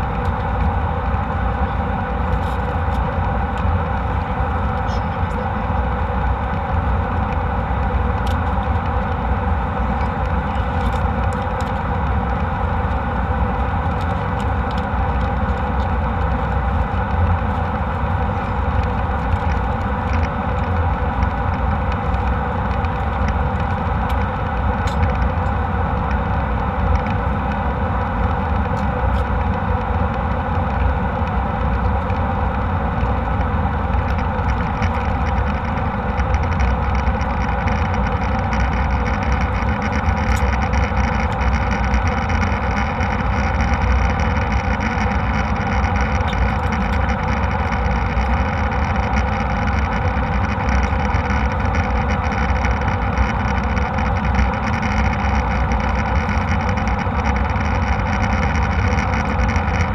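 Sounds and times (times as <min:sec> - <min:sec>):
jet engines and airflow drone: 0:00.0 - 0:59.9.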